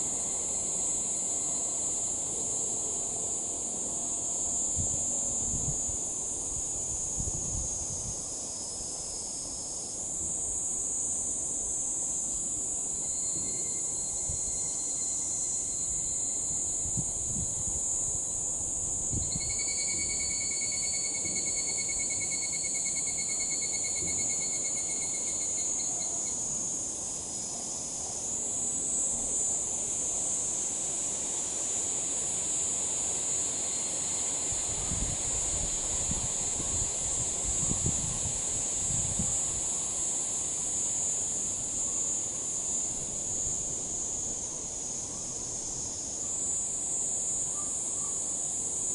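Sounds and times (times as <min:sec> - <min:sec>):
cicadas trilling in chorus: 0:00.0 - 0:48.9.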